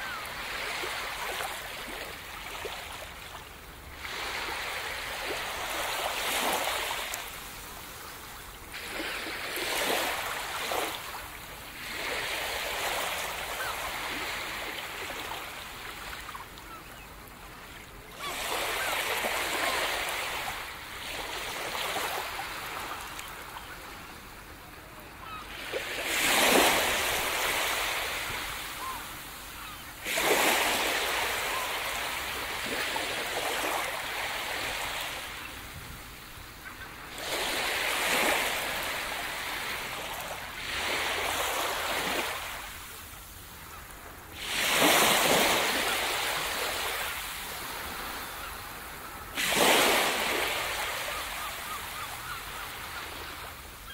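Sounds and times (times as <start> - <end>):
small waves breaking on beach: 0.0 - 53.9.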